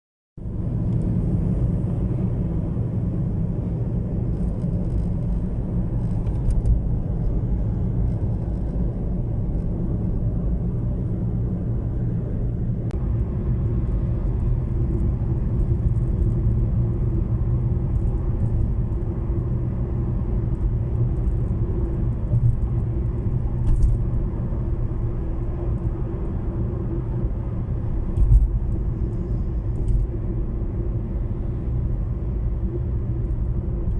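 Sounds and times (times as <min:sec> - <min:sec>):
car tyres and engine rumble: 0:00.4 - 0:33.9.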